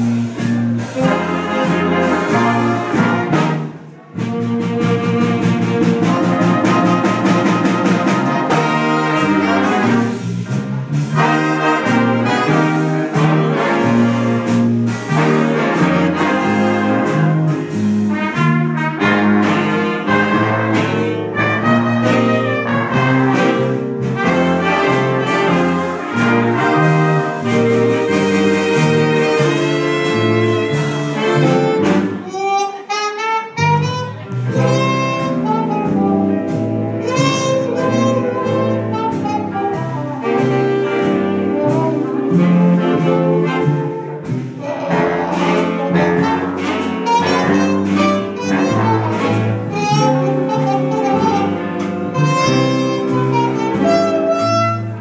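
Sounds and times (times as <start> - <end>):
big band playing jazz: 0.0 - 55.0
sliding horn phrase: 0.0 - 55.0.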